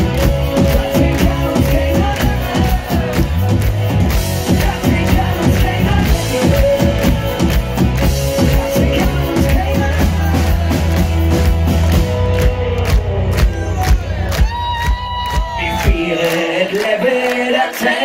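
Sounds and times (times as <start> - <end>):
drum kit steady beat: 0.0 - 16.0
live rock band playing: 0.0 - 16.1.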